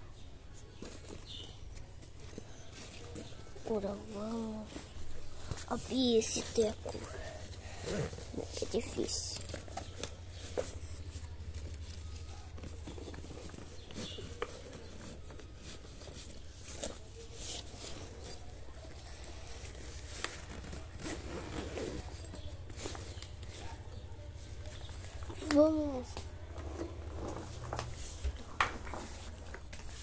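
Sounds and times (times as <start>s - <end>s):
fabric backpack rustling and scraping: 2.0s - 28.3s.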